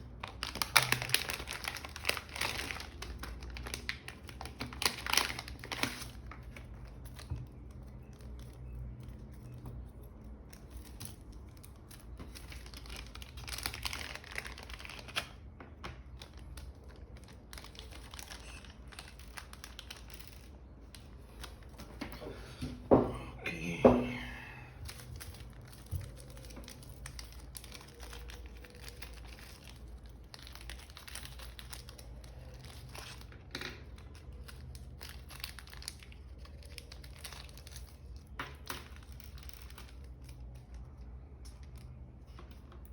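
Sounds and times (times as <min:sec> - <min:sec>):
objects rustling and crinkling: 0:00.0 - 0:24.2, 0:24.8 - 0:42.9.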